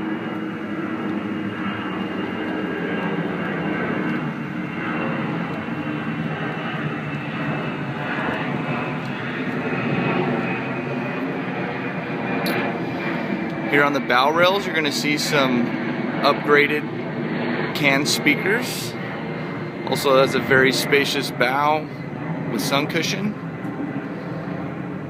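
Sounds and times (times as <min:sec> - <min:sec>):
steady engine-like drone: 0:00.0 - 0:25.0.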